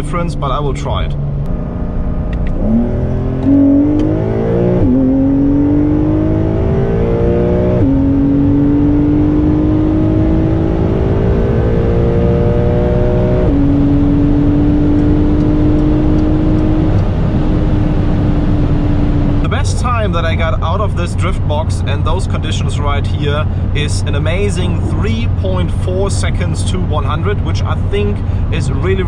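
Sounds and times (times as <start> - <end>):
gear upshifts: 0.0 - 28.0
car engine at full throttle: 0.0 - 29.0.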